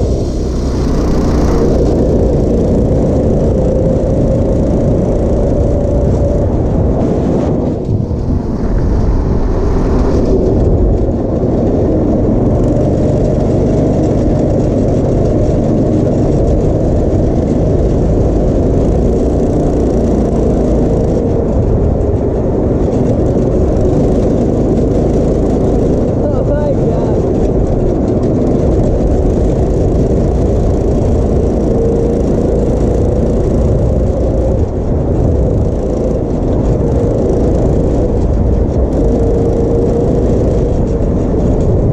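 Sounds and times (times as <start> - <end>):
go-kart engine running: 0.0 - 41.9.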